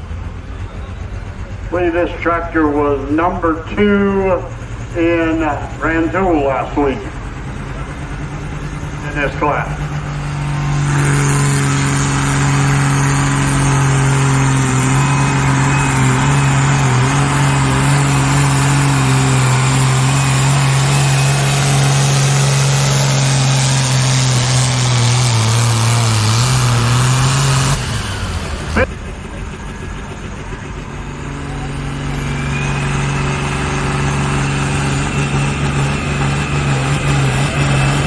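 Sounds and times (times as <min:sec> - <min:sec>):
tractor diesel engine at full throttle: 0:00.0 - 0:38.0.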